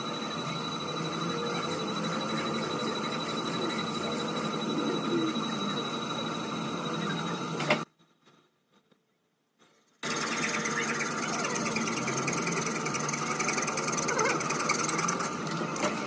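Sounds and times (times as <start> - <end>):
workshop machinery running: 0.0 - 7.9, 10.0 - 16.0.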